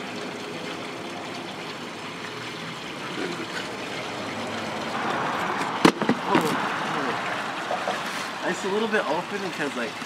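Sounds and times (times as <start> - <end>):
pool water lapping: 0.0 - 10.0.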